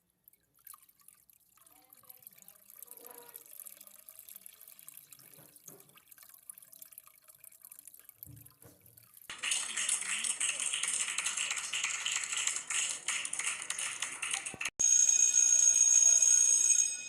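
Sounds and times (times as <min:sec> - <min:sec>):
water running and dripping: 0:00.0 - 0:14.8.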